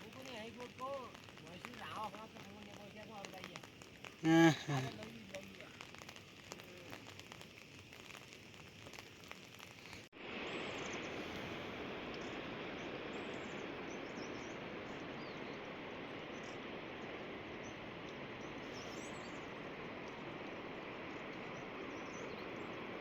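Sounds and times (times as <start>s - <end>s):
rain patter: 0.0s - 23.0s
steady rain hiss: 0.0s - 23.0s.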